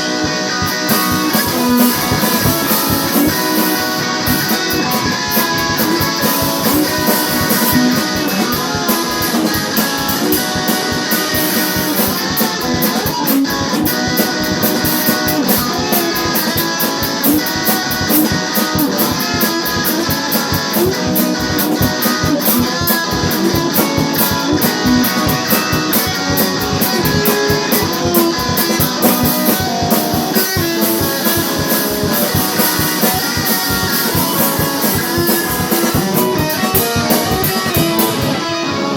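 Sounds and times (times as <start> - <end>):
guitar-driven rock music: 0.0 - 38.9.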